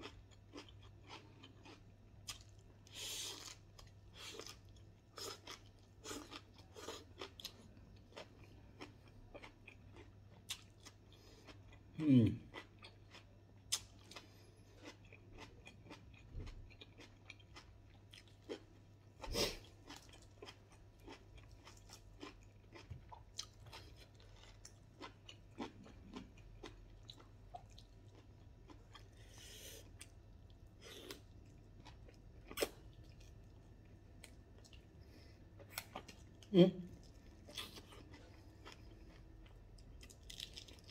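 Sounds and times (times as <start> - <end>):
faint low hum: 0.0 - 40.9
person chewing food: 0.0 - 40.9.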